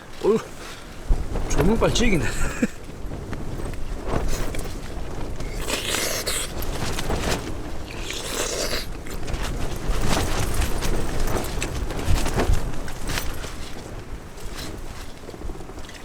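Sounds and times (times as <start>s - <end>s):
rustling and scraping: 0.0s - 16.0s
wind on microphone: 0.0s - 16.0s.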